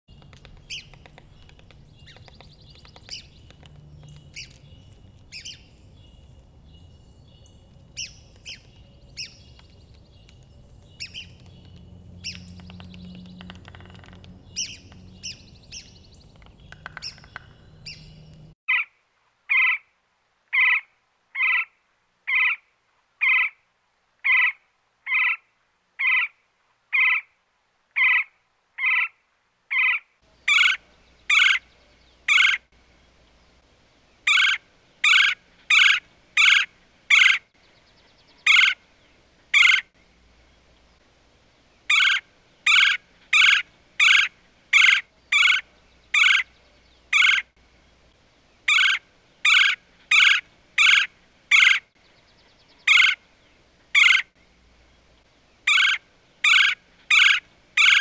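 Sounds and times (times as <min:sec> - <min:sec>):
woodland background: 0:00.0 - 0:58.0
woodpecker calling: 0:00.1 - 0:18.9, 0:19.5 - 0:19.8, 0:20.5 - 0:21.7, 0:22.3 - 0:22.6, 0:23.2 - 0:23.6, 0:24.2 - 0:25.4, 0:26.0 - 0:27.3, 0:28.0 - 0:32.7, 0:34.1 - 0:40.0, 0:41.8 - 0:47.6, 0:48.6 - 0:54.4, 0:55.6 - 0:58.0.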